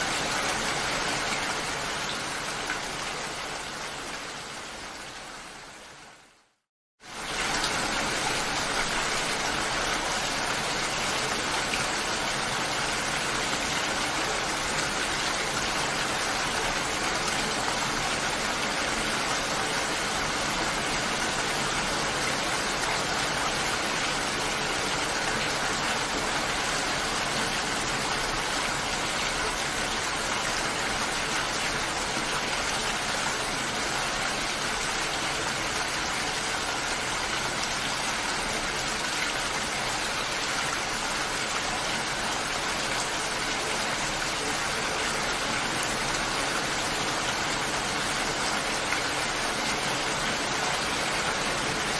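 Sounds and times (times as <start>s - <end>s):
steady rain hiss: 0.0s - 51.9s.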